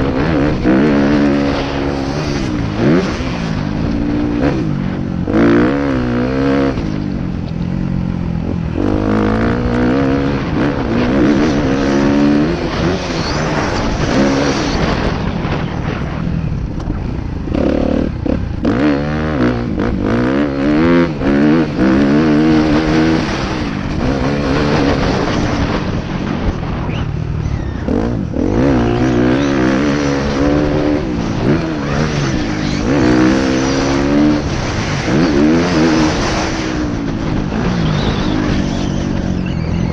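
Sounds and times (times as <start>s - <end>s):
motocross bike engine revving: 0.0s - 16.0s, 17.5s - 26.8s, 27.4s - 39.9s
steady rushing noise: 0.0s - 39.9s.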